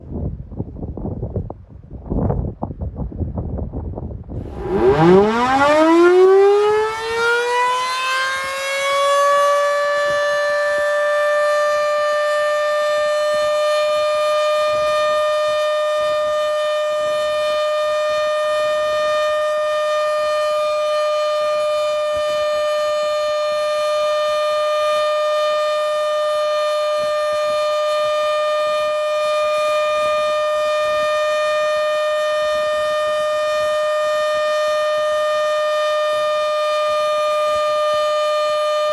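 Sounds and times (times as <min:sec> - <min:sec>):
warning siren winding up: 0:04.4 - 0:38.9.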